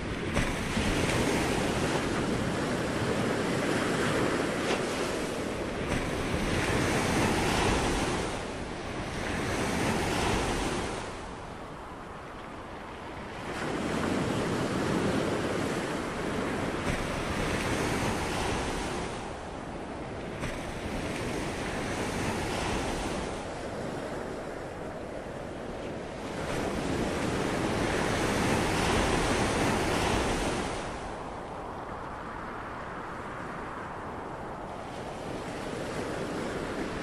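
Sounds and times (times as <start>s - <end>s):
ocean waves surf: 0.0s - 37.0s.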